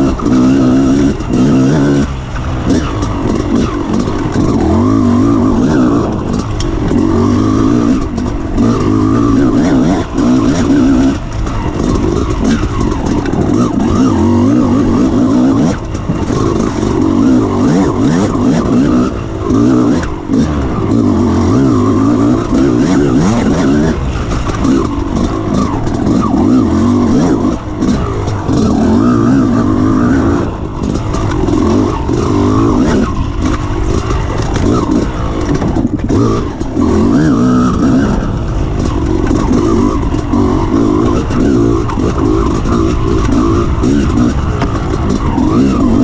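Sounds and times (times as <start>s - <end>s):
off-road motorcycle engine revving: 0.0s - 46.0s.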